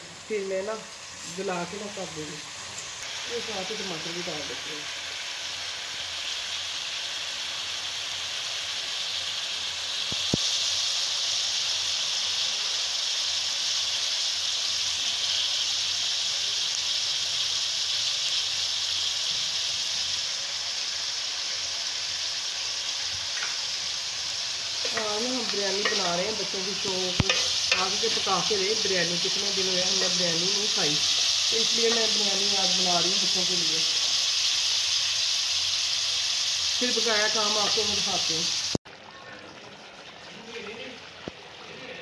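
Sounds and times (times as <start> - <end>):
onions sizzling in fat: 0.0 - 42.0.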